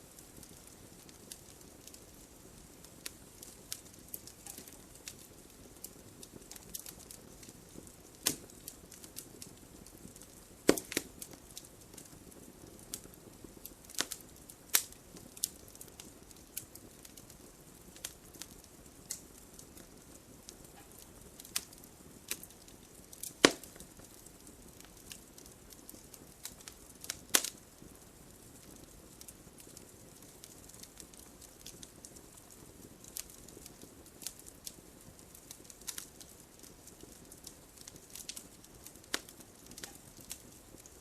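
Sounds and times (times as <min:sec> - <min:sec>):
faint steady hiss: 0:00.0 - 0:41.0
wood fire crackling and popping: 0:00.0 - 0:41.0.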